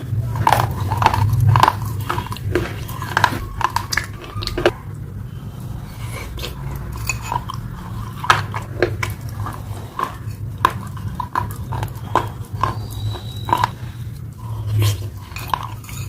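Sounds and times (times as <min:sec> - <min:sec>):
steady low hum: 0:00.0 - 0:16.0
wet chewing and lip-smacking: 0:00.0 - 0:16.0.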